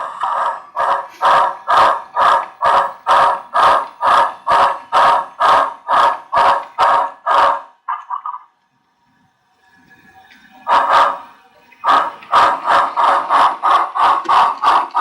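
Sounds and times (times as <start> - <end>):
steam locomotive chuffs from small speaker: 0.0 - 8.4, 9.6 - 15.0.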